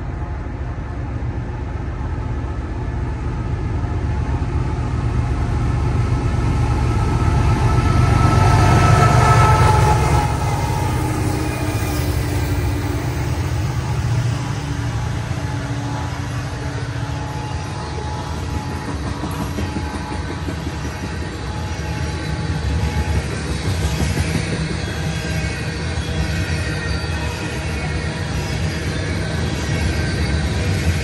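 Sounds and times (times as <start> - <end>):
diesel locomotives passing: 0.0 - 31.0
train cars rumbling: 0.0 - 31.0.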